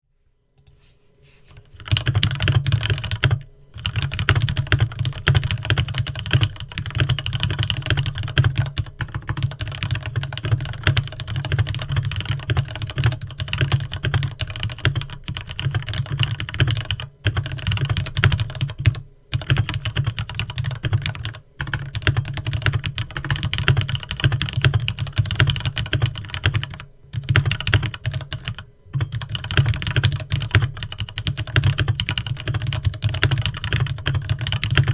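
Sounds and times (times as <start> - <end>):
fast mechanical keyboard typing: 1.7 - 34.9.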